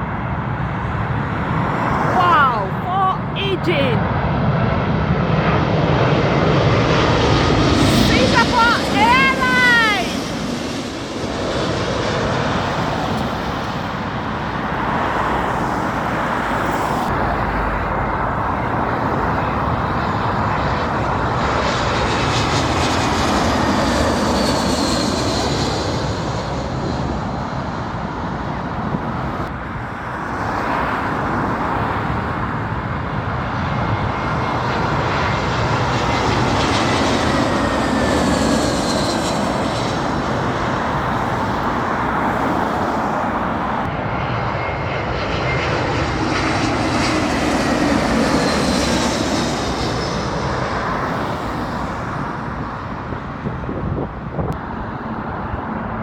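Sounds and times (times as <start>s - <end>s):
jet engines roaring: 0.0s - 3.4s, 4.0s - 56.0s.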